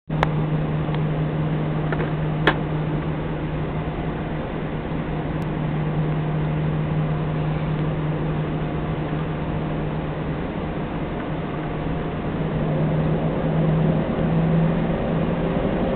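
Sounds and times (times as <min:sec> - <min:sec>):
jet engines idling in cabin: 0:00.1 - 0:15.9.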